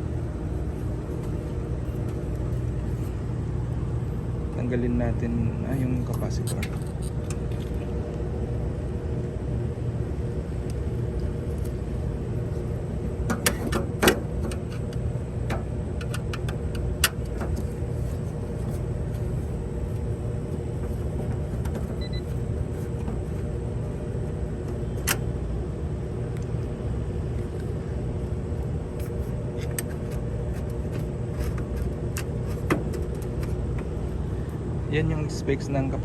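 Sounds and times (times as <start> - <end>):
low machine rumble: 0.0 - 36.0.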